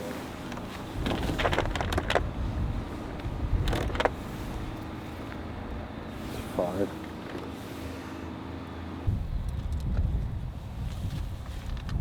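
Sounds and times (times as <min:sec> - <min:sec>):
low rumble of handling: 0:00.0 - 0:12.0.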